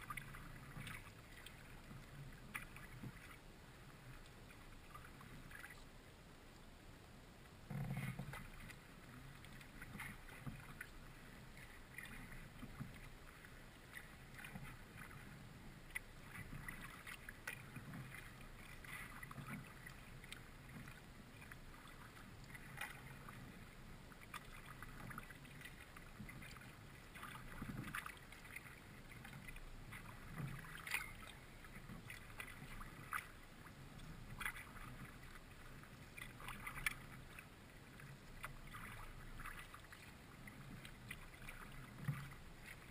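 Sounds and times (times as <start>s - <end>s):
kayak paddle strokes in water: 0.0s - 6.8s, 7.4s - 42.9s
water swishing along hull: 0.0s - 42.9s.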